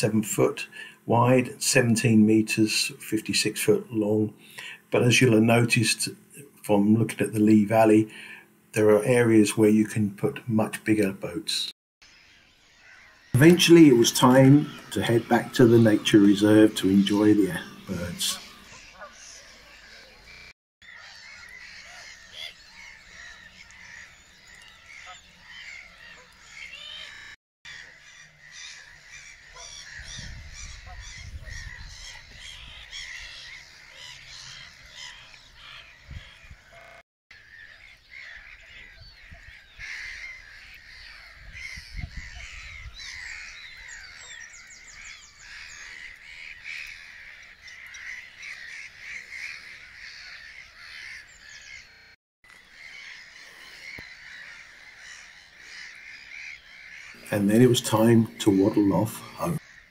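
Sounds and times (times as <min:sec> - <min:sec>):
water birds squawking: 0:07.3 - 0:59.9.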